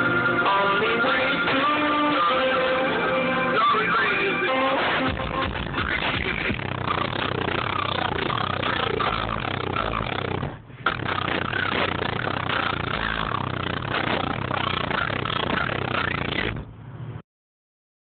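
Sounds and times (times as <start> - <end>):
loud distorted bass-heavy music: 0.0 - 16.7.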